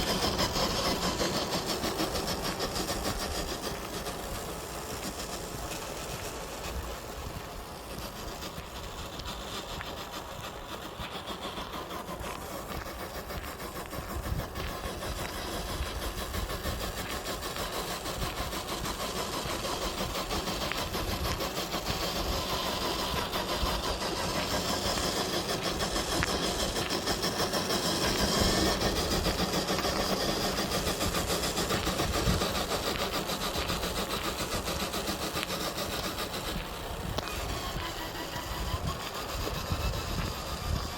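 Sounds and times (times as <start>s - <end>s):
toy truck motor whirring: 0.0s - 40.9s.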